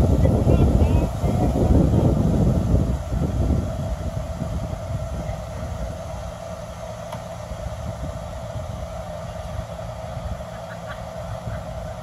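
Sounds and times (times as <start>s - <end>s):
distant dump truck engines rumbling: 0.0s - 12.0s.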